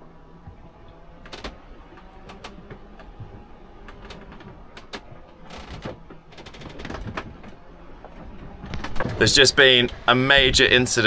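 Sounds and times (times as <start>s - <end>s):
low steady rumble: 0.0s - 11.0s
clicks and knocks in boat cabin: 0.4s - 9.4s.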